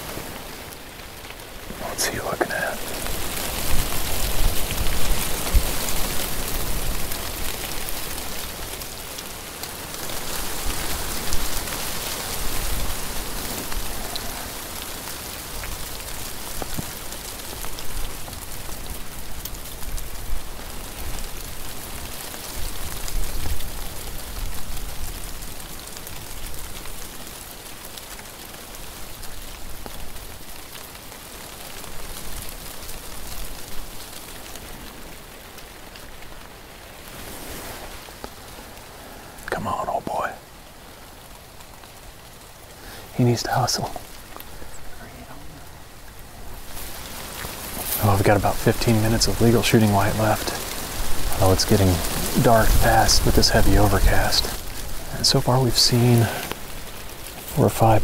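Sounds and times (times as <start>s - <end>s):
wind through brush and leaves: 0.0s - 58.0s.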